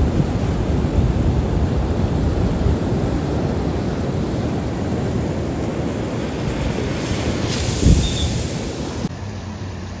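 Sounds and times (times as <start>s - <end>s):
wind rumble on microphone: 0.0s - 9.1s
ocean surf: 0.0s - 10.0s.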